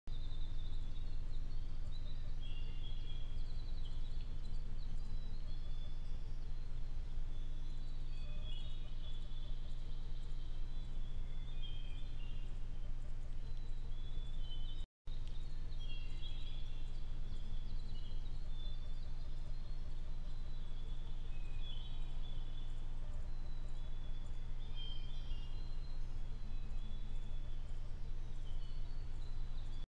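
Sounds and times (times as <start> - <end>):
low microphone hum: 0.1 - 29.8
high chirping and trilling calls: 0.2 - 29.9.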